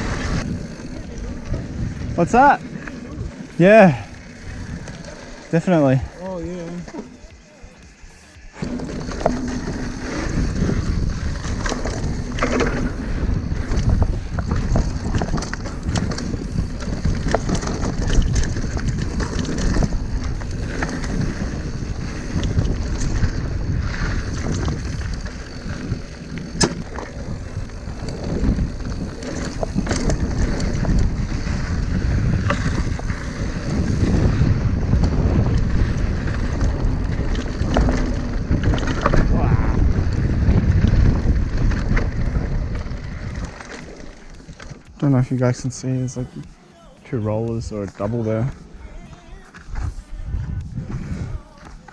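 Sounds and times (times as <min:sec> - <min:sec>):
bike rattling over bumps: 0:00.0 - 0:51.9
tyres rolling over dirt: 0:00.0 - 0:51.9
wind on microphone: 0:00.0 - 0:51.9.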